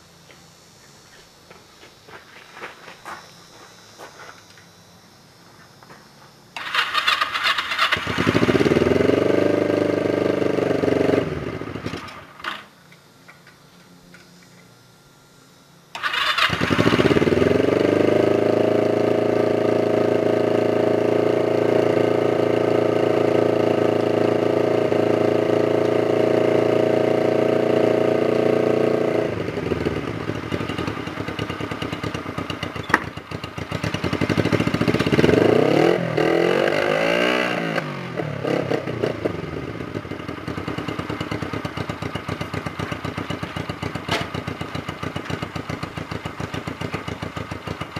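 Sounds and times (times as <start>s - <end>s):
motorcycle engine starting and idling: 6.5s - 14.2s, 15.9s - 47.9s.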